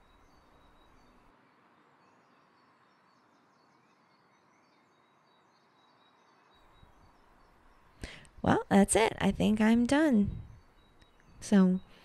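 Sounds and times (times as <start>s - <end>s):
faint high bird chirps: 0.0s - 12.0s.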